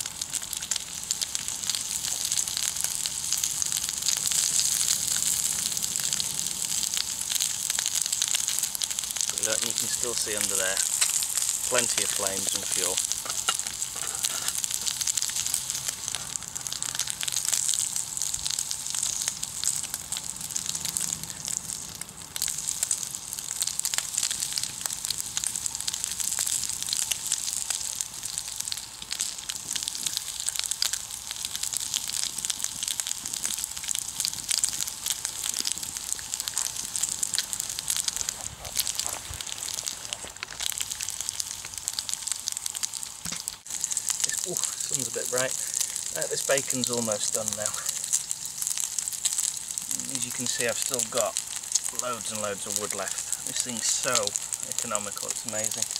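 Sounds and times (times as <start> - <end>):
bacon sizzling in a pan: 0.0 - 55.9.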